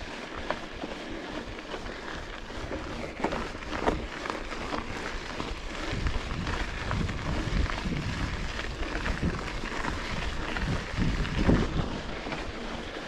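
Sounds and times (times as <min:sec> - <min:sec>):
bike tyres on gravel: 0:00.0 - 0:13.0
bike knocks and rattles: 0:00.1 - 0:12.9.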